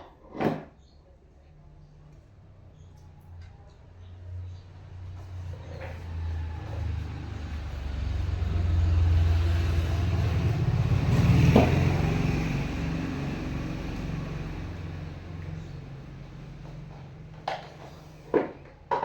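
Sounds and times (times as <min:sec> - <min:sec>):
passing motor vehicle rumble: 0:01.9 - 0:19.0.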